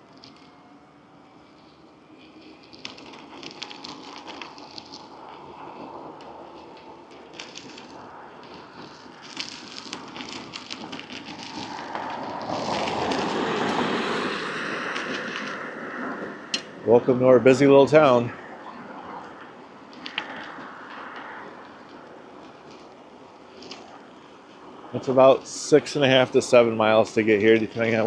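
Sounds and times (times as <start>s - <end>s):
crackles and ticks: 0.0s - 16.8s, 17.6s - 28.0s
bike tyre noise on road: 0.0s - 28.0s
broad rushing noise: 0.0s - 28.0s.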